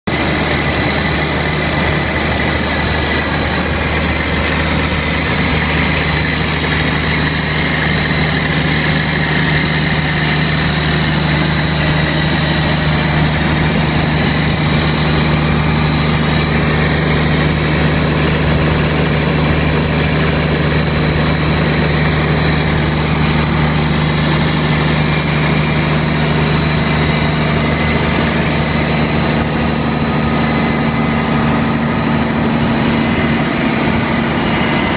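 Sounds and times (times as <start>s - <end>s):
diesel generator engine drone: 0.0s - 34.9s.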